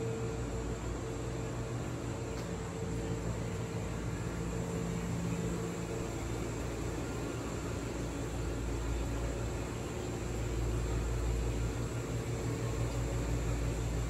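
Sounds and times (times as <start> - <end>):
aquarium equipment hum and hiss: 0.0 - 14.0
faint high whine: 0.0 - 14.0.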